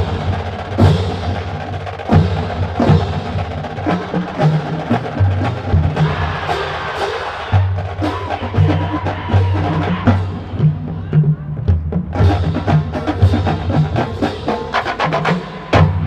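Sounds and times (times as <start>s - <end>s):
drumline percussion: 0.0s - 16.0s.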